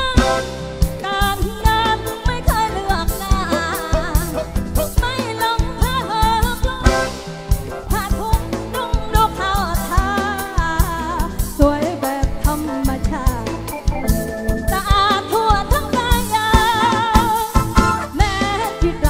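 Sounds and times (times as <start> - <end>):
band with drum beat: 0.0 - 19.0
woman singing with vibrato: 1.0 - 7.1, 7.8 - 19.0.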